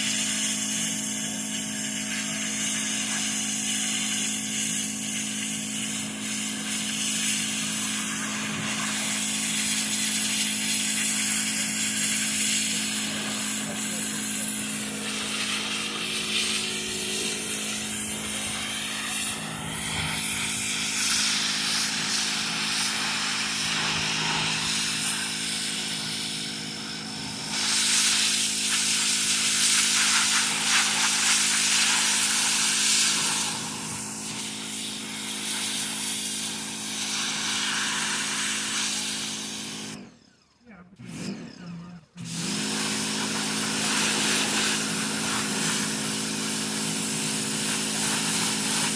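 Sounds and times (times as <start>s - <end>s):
water spray hissing: 0.0s - 39.9s, 42.4s - 48.9s
pressure washer motor hum: 0.0s - 48.9s.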